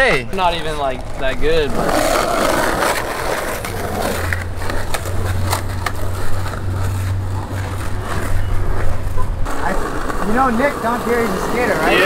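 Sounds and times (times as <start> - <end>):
skateboard wheels rolling on asphalt: 0.0 - 12.0.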